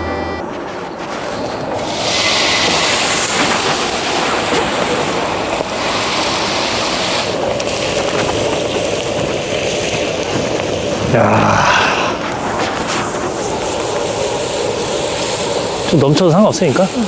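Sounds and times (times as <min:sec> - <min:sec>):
food sizzling on a griddle: 0:01.8 - 0:17.0.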